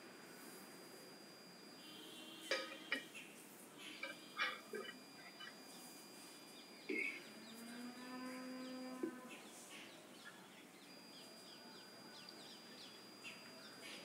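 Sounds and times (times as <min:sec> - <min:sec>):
birds chirping: 0:01.6 - 0:14.0.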